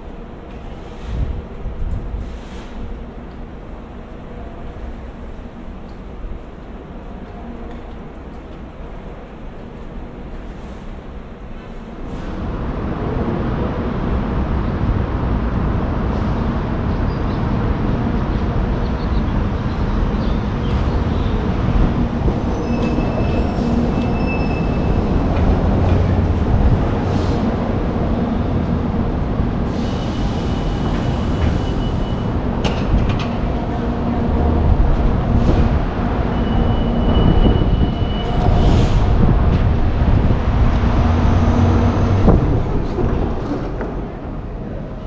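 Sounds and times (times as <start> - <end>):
low rumble of roadway traffic: 0.0 - 45.0.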